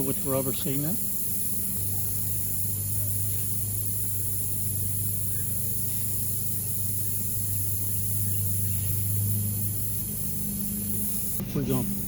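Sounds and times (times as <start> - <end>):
faint hiss: 0.0 - 12.0
steady low hum: 0.0 - 12.0.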